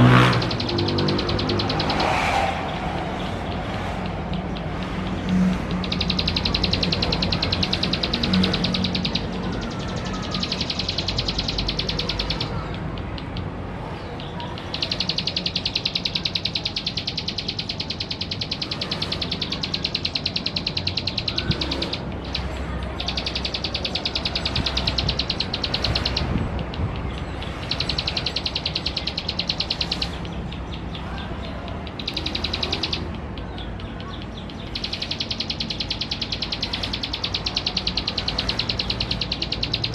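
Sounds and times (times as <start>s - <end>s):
bird ticking trill: 0.0s - 39.9s.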